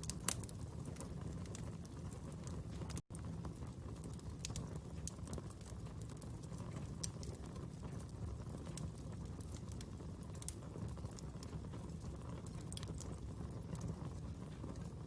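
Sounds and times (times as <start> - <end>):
fire popping and snapping: 0.0 - 15.0
fire rumbling: 0.0 - 15.0.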